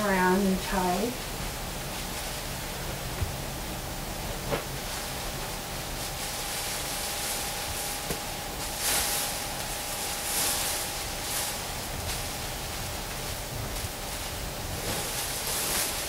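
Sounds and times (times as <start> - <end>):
steady hiss: 0.0 - 16.0
bag and twine rustling: 2.0 - 16.0.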